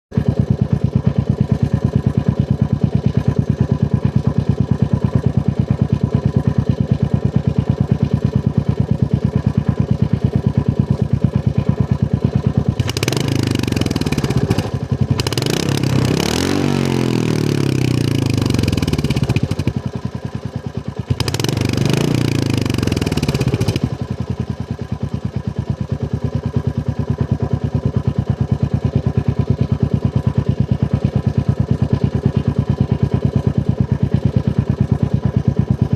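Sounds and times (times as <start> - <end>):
motorcycle engine idling and revving: 0.1 - 35.9.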